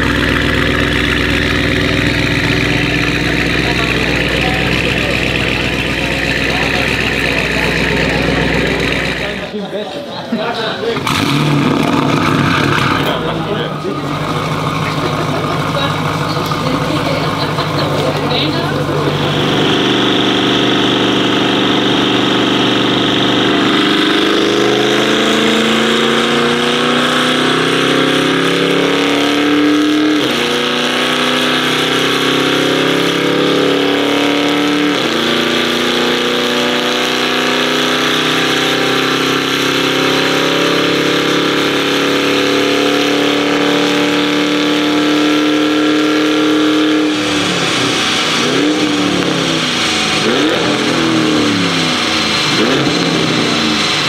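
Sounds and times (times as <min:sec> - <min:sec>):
car engine revving at full load: 0:00.0 - 0:09.6, 0:10.7 - 0:54.0.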